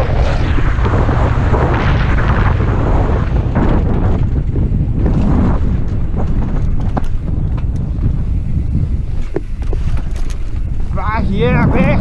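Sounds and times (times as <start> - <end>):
bike tyres on dirt: 0.0 - 12.0
wind buffeting microphone: 0.0 - 12.0.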